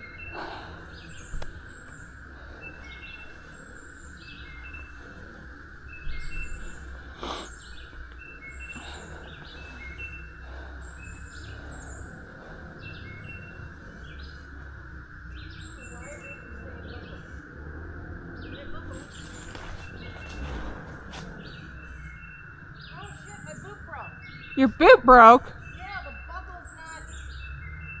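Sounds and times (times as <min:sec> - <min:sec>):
steady low hum: 0:00.0 - 0:25.6
songbirds singing: 0:00.0 - 0:28.0.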